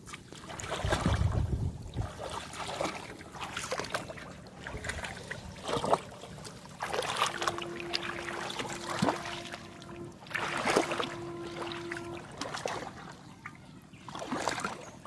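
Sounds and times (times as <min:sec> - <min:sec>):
shallow water splashing: 0:00.0 - 0:15.0
steady hum: 0:00.7 - 0:15.0.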